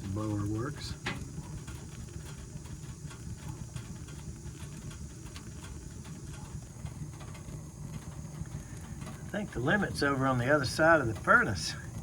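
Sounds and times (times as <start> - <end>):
furnace blower rumble: 0.0 - 12.0
faint ticks: 0.1 - 12.0.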